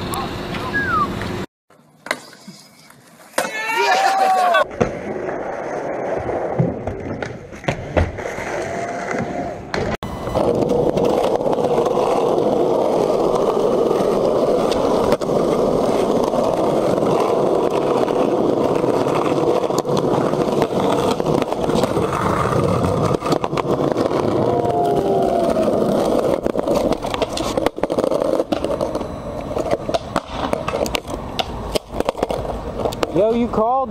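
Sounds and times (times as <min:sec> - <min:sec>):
skateboard wheels rolling on asphalt: 0:00.0 - 0:33.9.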